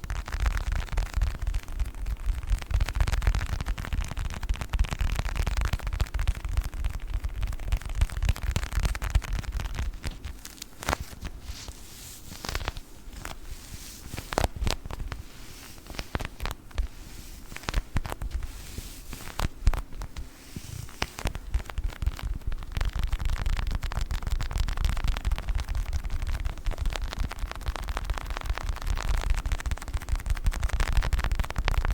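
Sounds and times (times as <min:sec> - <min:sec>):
toy ball crackling and clicking: 0:00.0 - 0:11.4, 0:12.3 - 0:31.9.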